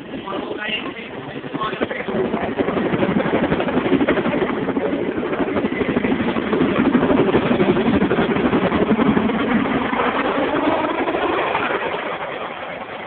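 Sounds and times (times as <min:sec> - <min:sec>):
helicopter rotors throbbing: 0:00.0 - 0:13.0.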